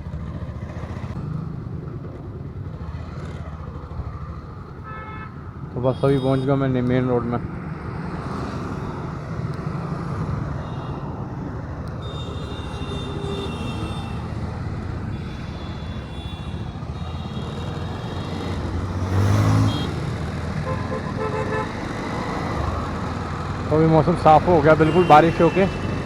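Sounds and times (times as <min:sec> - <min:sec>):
road and traffic noise: 0:00.0 - 0:26.0.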